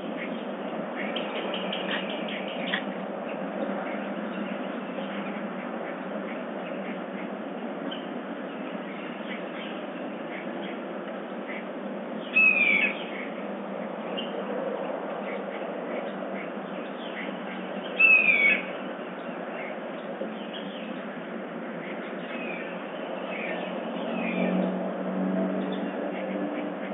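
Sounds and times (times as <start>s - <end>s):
bird calls and chirps: 0.0s - 24.7s.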